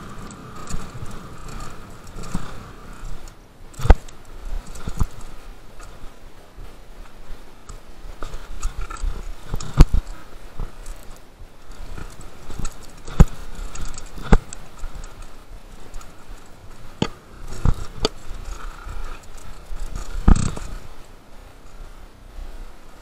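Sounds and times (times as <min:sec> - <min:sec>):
bike knocking and rattling: 0:00.0 - 0:21.8
tyre and trail noise: 0:00.0 - 0:23.0.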